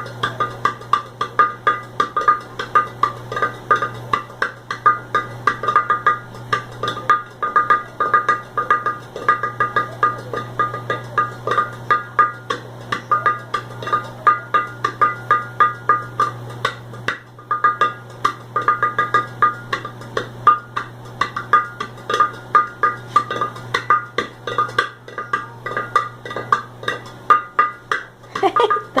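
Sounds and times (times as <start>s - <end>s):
drumming on kitchen objects: 0.0s - 29.0s
steady low hum: 0.0s - 29.0s.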